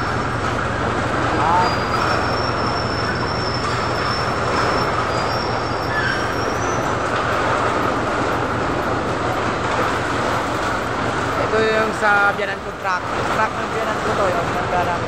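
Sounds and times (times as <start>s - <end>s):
machinery low hum: 0.0s - 15.0s.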